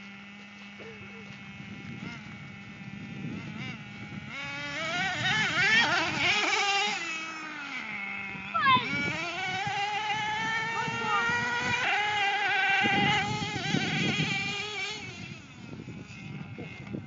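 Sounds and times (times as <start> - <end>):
toy truck motor whining: 0.1 - 17.0.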